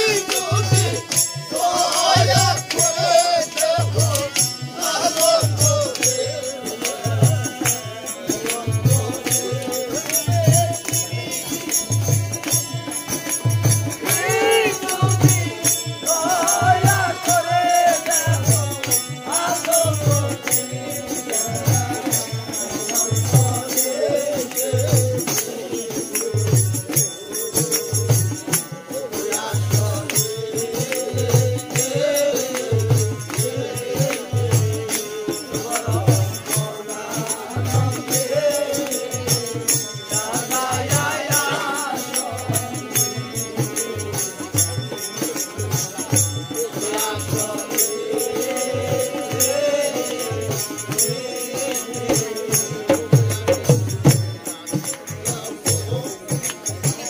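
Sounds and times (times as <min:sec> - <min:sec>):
harmonium: 0:00.0 - 0:57.0
jingling hand percussion: 0:00.0 - 0:57.0
person singing folk song: 0:00.0 - 0:57.0.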